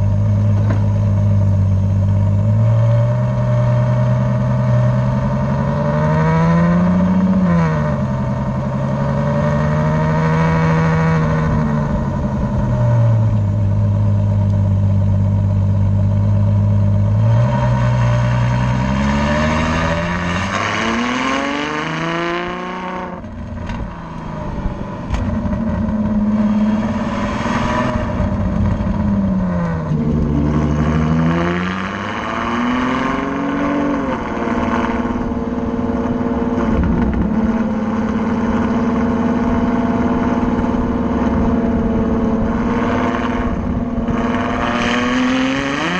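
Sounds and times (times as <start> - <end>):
car exhaust engine note: 0.0 - 45.9.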